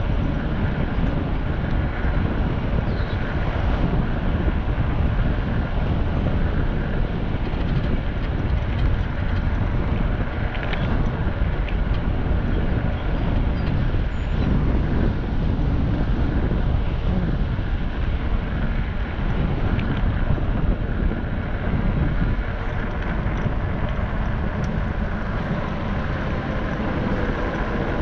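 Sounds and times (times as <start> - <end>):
vehicle rumble: 0.0 - 28.0
wind on microphone: 0.0 - 28.0.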